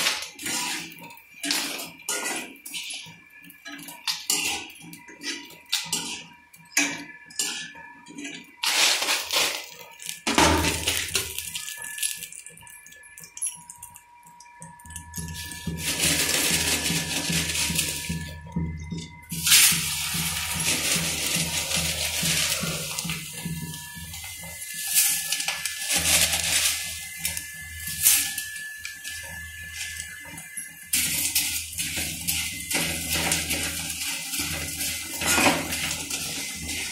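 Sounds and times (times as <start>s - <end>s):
metal spatula scraping: 0.0s - 3.1s, 3.7s - 11.8s, 15.2s - 18.5s, 19.3s - 36.9s
corn sizzling in a pan: 0.0s - 14.0s, 14.8s - 36.9s
metal utensils clinking: 0.0s - 14.0s, 14.8s - 18.6s, 19.3s - 36.9s.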